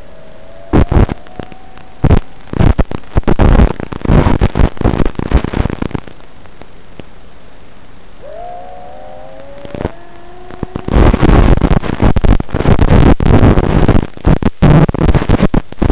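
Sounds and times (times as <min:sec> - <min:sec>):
static crackle bursts: 0:00.0 - 0:15.9
video downlink hiss: 0:00.0 - 0:15.9.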